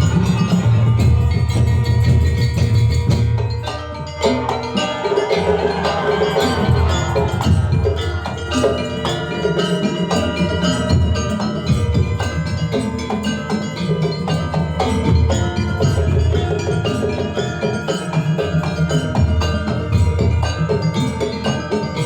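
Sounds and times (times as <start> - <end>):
metal mallet instruments ringing: 0.0 - 22.0
steady drum beat: 0.0 - 22.0
wood-block strokes: 0.0 - 22.0.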